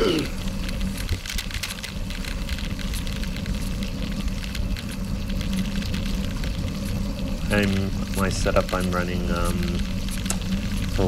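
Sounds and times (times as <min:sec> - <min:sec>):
grit and bike rattles: 0:00.0 - 0:11.0
wind and tyres rumbling: 0:00.0 - 0:11.0.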